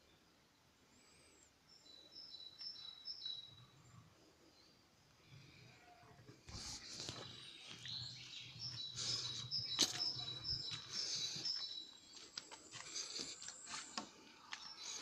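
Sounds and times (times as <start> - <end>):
birds chirping: 1.3 - 4.9, 5.6 - 15.0.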